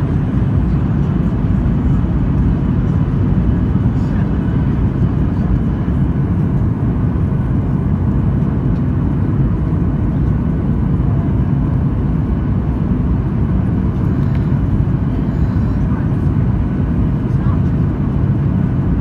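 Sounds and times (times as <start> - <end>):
airplane cabin roar: 0.0 - 19.0.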